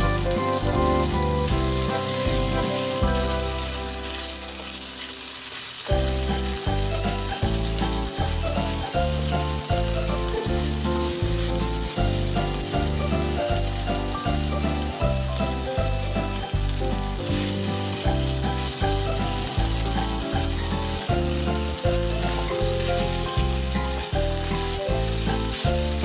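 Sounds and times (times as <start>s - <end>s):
background music with beat: 0.0s - 5.0s, 5.9s - 26.0s
meat sizzling in hot oil: 0.0s - 26.0s.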